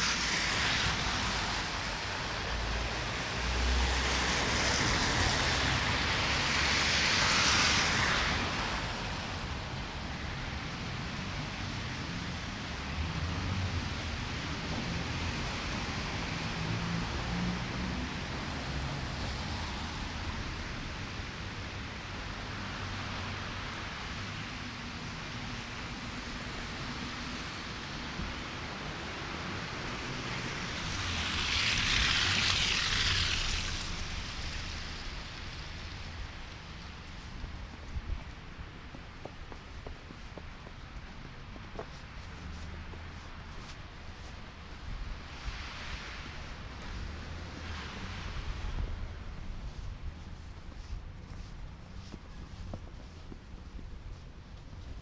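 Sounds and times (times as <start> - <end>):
traffic: 0.0 - 55.0
wind: 0.0 - 55.0.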